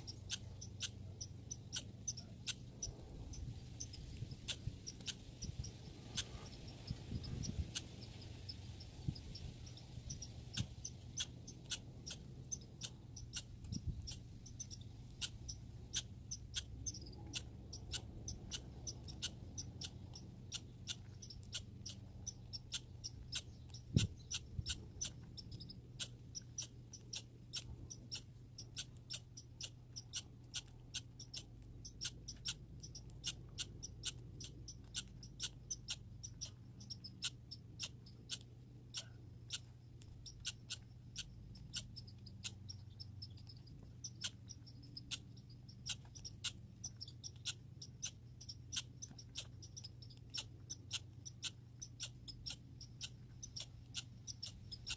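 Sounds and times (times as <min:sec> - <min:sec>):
faint low hum: 0:00.0 - 0:54.9
squirrel gnawing clicks: 0:00.0 - 0:54.9.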